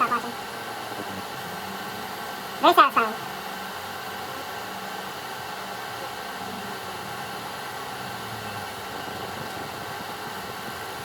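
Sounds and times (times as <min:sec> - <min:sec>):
laser engraving machine fans humming: 0:00.0 - 0:11.0.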